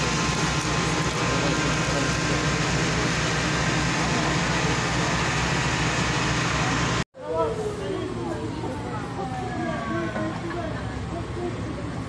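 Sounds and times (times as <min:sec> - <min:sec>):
large engine droning: 0:00.0 - 0:12.0.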